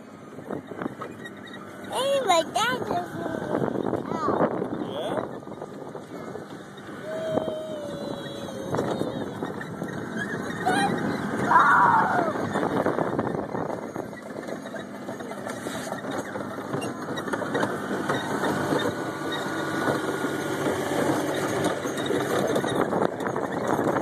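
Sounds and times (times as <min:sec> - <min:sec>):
cars rattling over grass: 0:00.0 - 0:24.0
small tractor engine running: 0:00.0 - 0:24.0.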